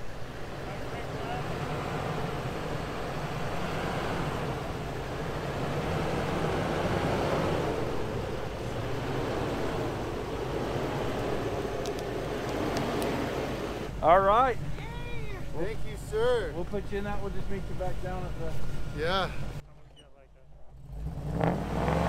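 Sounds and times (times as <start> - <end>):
truck engine running: 0.0 - 21.4.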